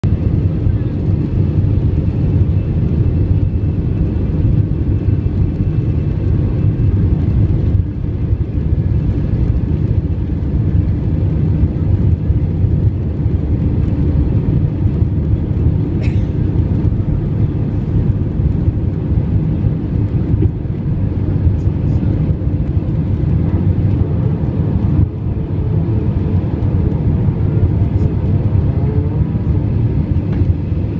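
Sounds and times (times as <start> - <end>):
jet engines roaring: 0.0 - 30.9
runway rumble: 0.0 - 30.9.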